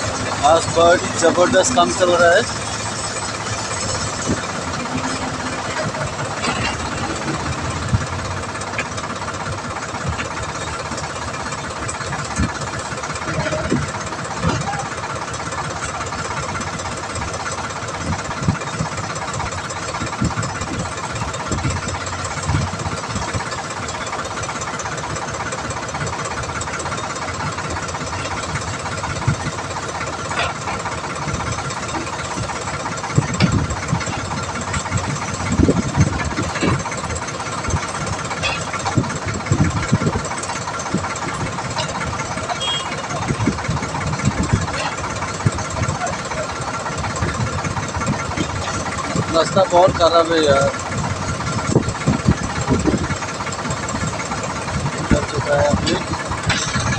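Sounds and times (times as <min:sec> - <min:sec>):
diesel engines running: 0:00.0 - 0:56.9.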